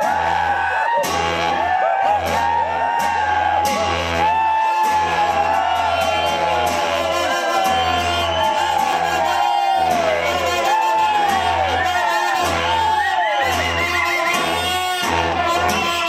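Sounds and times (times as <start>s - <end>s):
crowd whooping and shouting: 0.0s - 16.0s.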